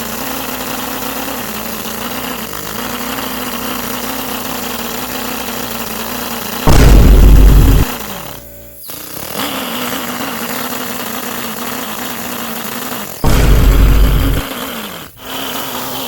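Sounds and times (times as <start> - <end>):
motor power bursts: 0.0 - 16.0
toy car motor humming: 0.0 - 16.0.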